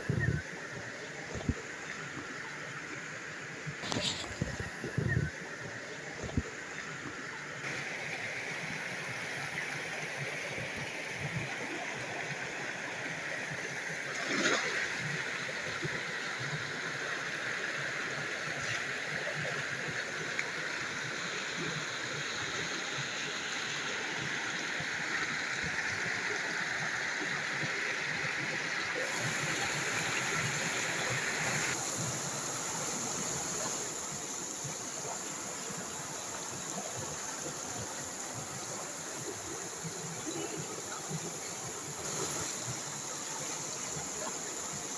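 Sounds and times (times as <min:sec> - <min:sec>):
stream flowing over rocks: 0:00.0 - 0:44.9.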